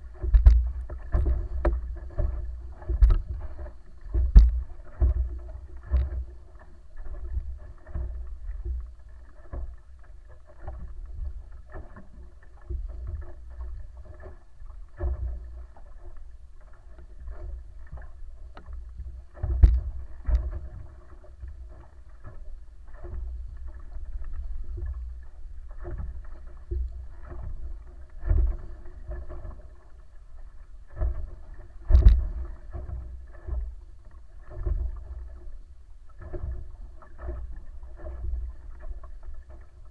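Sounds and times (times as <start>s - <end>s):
wind rumbling on microphone: 0.0s - 14.3s, 16.9s - 30.1s, 30.9s - 35.5s
faint steady hum: 0.0s - 39.9s
water rushing along hulls: 0.0s - 39.9s.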